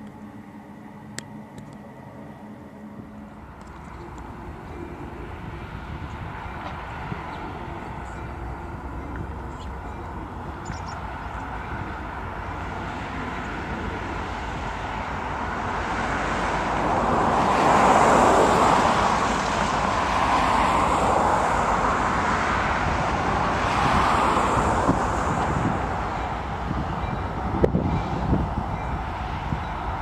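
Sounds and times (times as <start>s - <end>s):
freight train passing: 0.0s - 30.0s.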